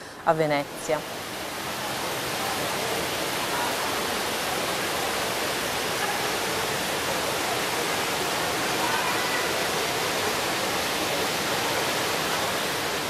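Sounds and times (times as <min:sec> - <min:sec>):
fountain water rushing: 0:00.0 - 0:13.0.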